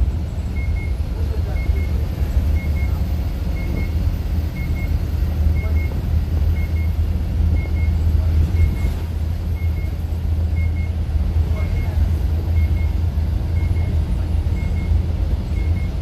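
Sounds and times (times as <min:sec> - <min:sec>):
diesel engine rumble from cab: 0:00.0 - 0:16.0
road noise: 0:00.0 - 0:16.0
faint double beep: 0:00.5 - 0:16.0.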